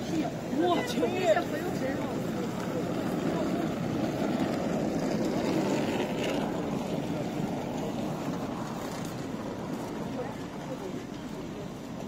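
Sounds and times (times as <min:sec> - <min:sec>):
steady rumbling noise: 0:00.0 - 0:12.0
suitcase wheels rolling over paving: 0:00.0 - 0:12.0.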